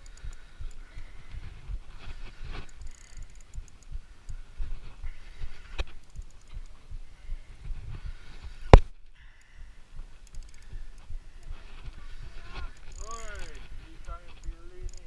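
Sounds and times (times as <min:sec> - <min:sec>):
microphone rubbing and thumps: 0:00.6 - 0:09.1, 0:10.0 - 0:15.0.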